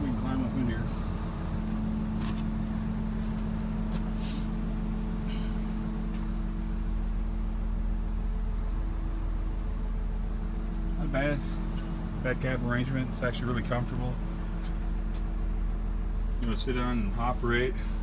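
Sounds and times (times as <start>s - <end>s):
excavator diesel engine idling: 0.0s - 18.0s.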